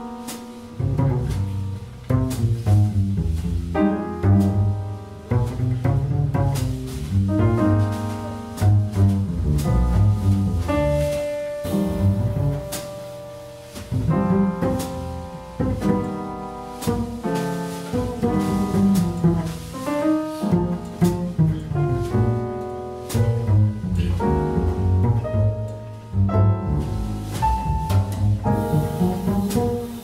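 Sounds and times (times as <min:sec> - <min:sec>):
double bass playing: 0:00.0 - 0:30.0
jazz piano: 0:00.0 - 0:30.0.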